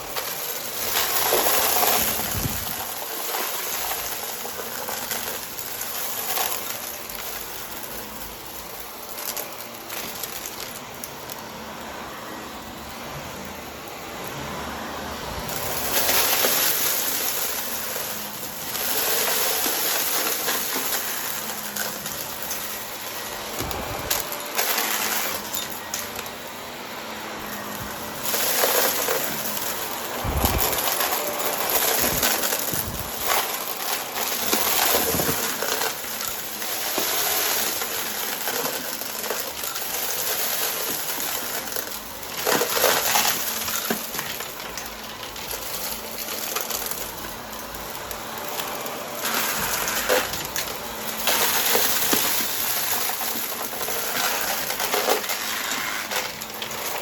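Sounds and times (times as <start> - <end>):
vacuum cleaner sucking up debris: 0.0 - 57.0.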